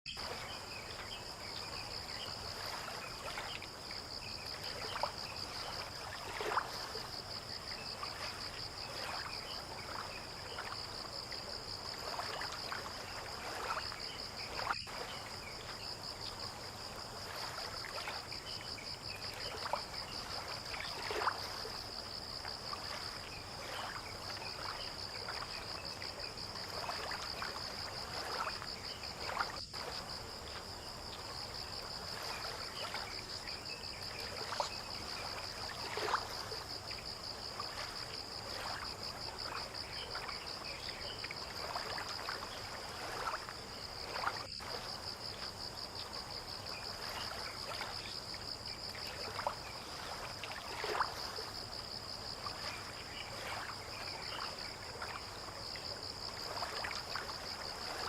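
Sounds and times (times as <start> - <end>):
insects trilling: 0.1 - 58.0
water lapping against shore: 0.1 - 58.0.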